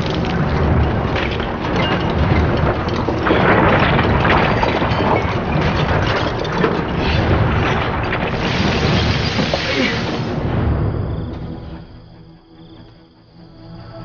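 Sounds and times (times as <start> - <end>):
loud rumbling and crackling: 0.0 - 12.4.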